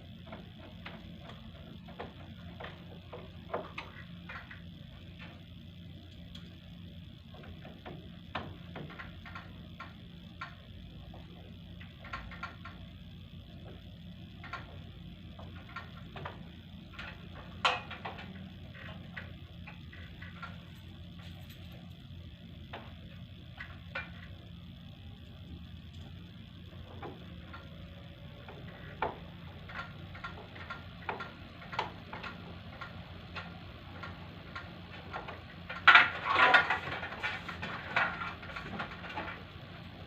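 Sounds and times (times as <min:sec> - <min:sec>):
air conditioner humming: 0:00.0 - 0:40.0.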